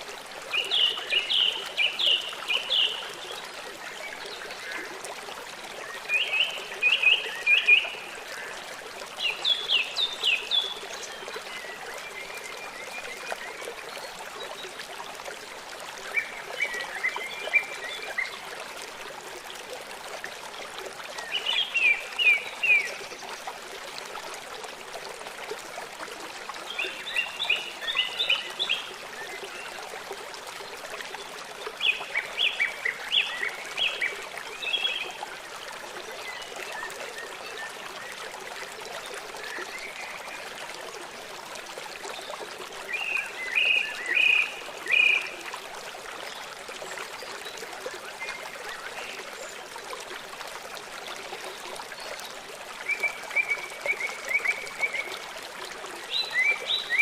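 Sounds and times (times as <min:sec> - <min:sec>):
trickling stream: 0:00.0 - 0:57.0.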